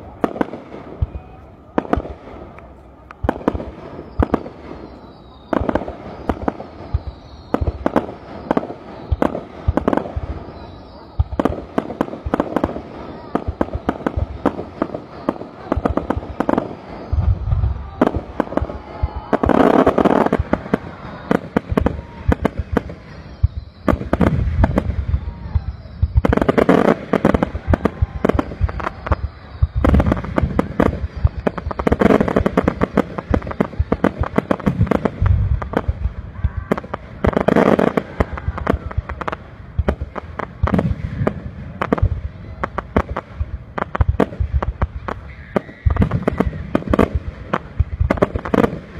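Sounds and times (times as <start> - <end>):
fireworks bangs and pops: 0.0 - 48.9.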